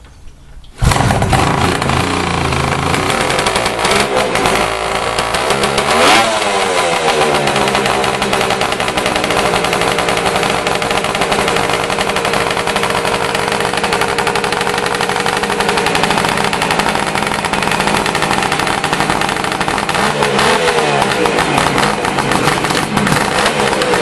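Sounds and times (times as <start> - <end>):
two-stroke engine idling: 0.8 - 24.0.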